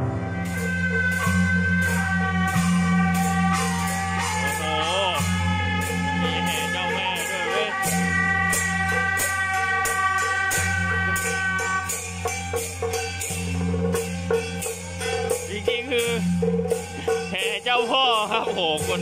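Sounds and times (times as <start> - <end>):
music with steady beat: 0.0 - 19.0.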